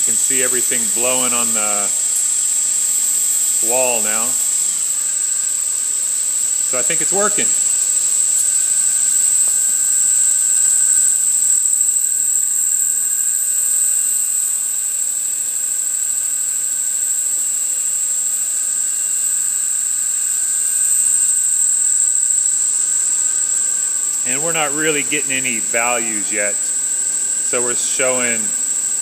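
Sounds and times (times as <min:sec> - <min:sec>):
electric motor whine: 0:00.0 - 0:29.0.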